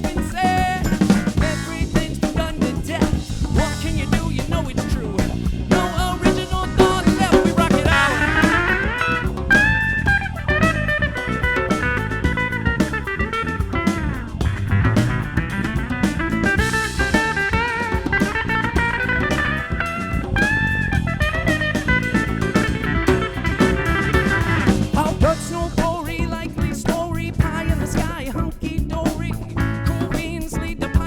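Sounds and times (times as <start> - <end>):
lead guitar with bent notes: 0.0 - 26.7
drum kit beat: 0.0 - 31.0.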